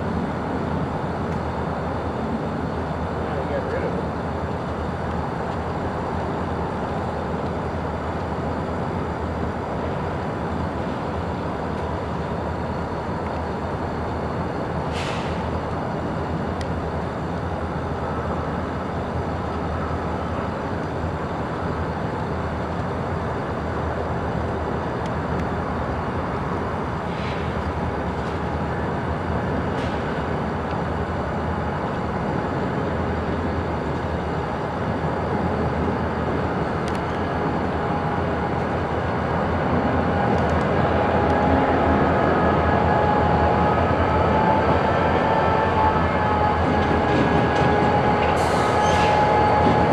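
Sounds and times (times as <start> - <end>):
locomotive rumbling: 0.0 - 49.9.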